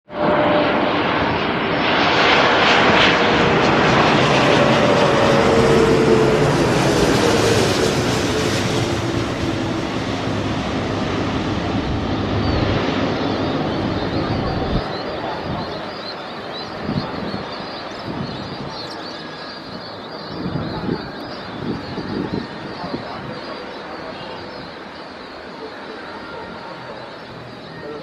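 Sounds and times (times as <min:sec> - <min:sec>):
jet airliner passing: 0:00.0 - 0:28.0
engine whine falling in pitch: 0:00.1 - 0:28.0.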